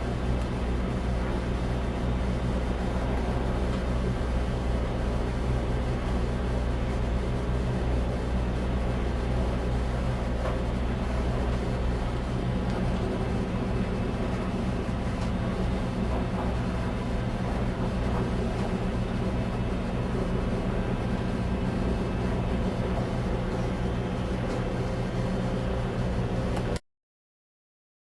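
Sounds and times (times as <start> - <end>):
boat engine humming: 0.0 - 26.8.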